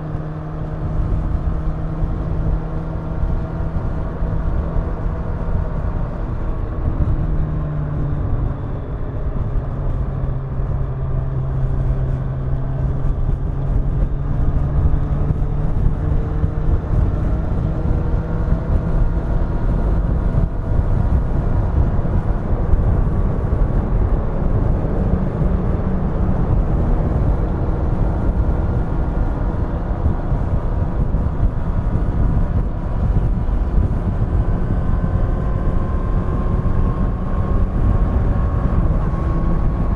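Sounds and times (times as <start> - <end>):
motorcycle engine cruising: 0.0 - 39.9
wind and road rumble: 0.0 - 39.9.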